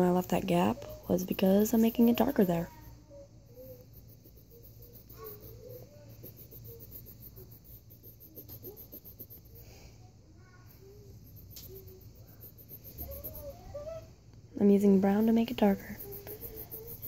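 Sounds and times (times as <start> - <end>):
colored pencil scratching on paper: 0.0 - 2.9, 3.5 - 9.8, 10.8 - 13.9, 15.0 - 17.0
faint distant voices: 0.0 - 17.0
low steady hum: 0.0 - 17.0.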